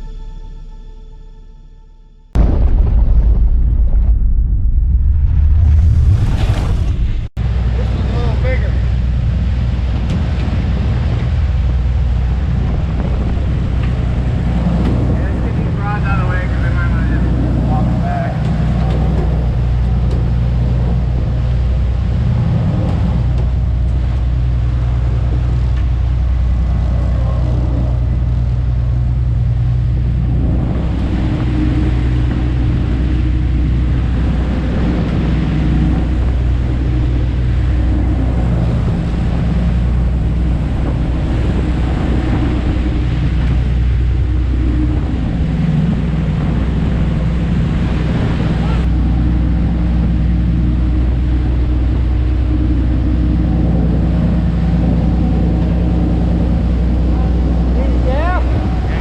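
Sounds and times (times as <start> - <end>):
water rushing: 2.4 - 59.0
boat engine humming: 6.9 - 59.0.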